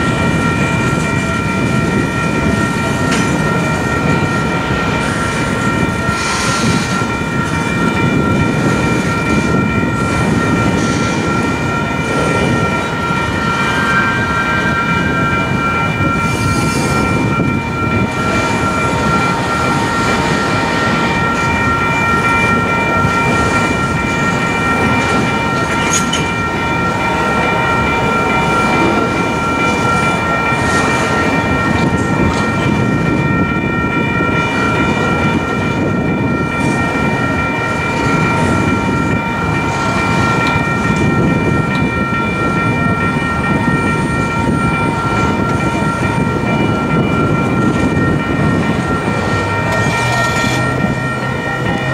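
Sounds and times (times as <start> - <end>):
freight train wheels rumbling: 0.0 - 51.9
steady high ringing tone: 0.0 - 51.9.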